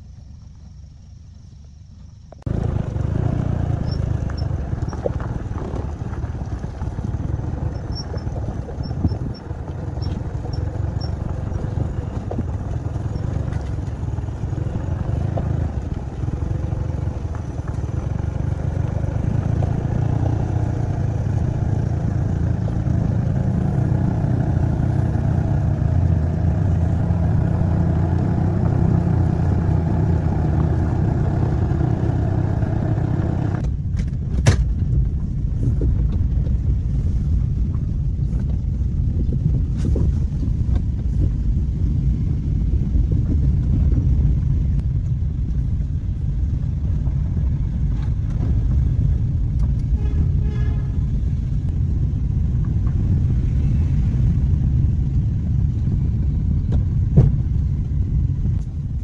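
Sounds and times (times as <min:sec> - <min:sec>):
engine running with low rumble: 0:00.0 - 0:59.0.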